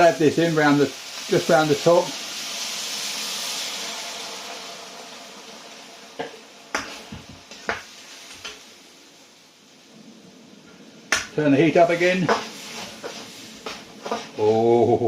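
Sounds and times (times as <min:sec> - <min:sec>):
sauce sizzling in hot pan: 0:00.0 - 0:15.0.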